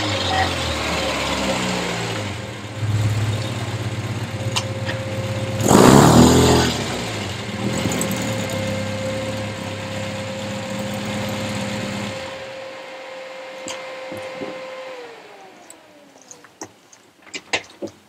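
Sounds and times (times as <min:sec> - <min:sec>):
engine running at low revs: 0:00.0 - 0:16.4.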